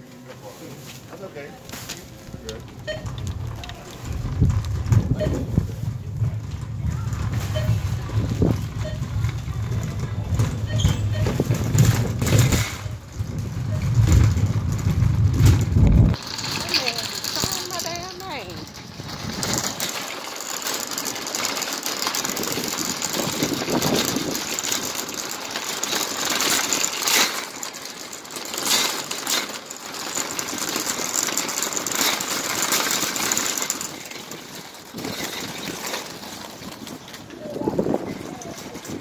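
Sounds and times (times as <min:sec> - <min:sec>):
shopping cart rattling on asphalt: 0:00.0 - 0:39.0.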